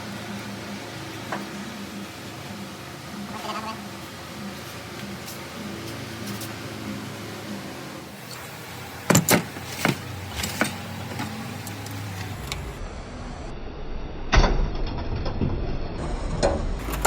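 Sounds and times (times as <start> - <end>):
low machine hum: 0.0 - 14.9, 15.9 - 17.0.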